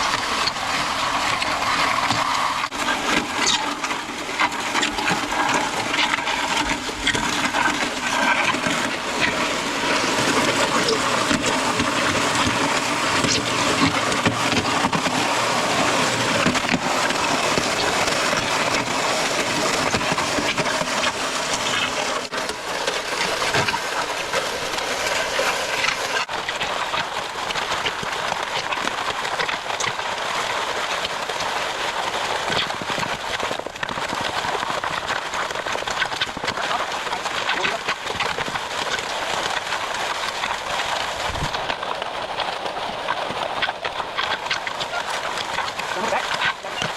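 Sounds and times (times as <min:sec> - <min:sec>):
concrete mixer running: 0:00.0 - 0:46.9.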